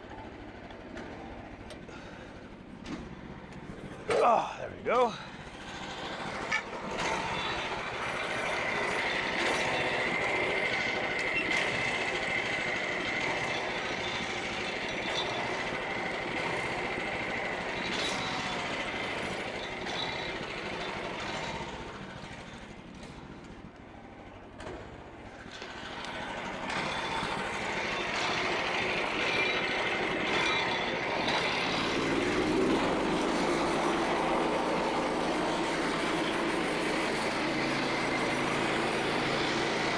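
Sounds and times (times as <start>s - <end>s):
sawmill blade whine: 0.0s - 39.9s.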